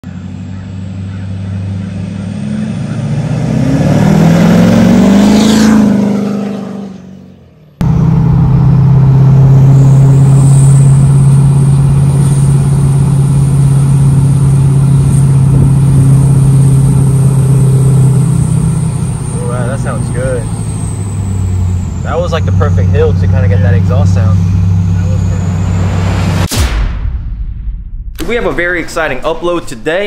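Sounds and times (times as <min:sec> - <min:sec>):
diesel pickup driving past: 0:00.0 - 0:26.5
diesel engine drone in cab: 0:00.0 - 0:26.6.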